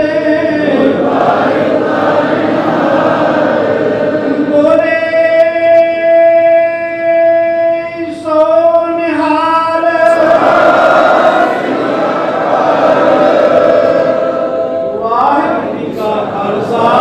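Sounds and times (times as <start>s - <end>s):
men singing devotional song: 0.0s - 17.0s.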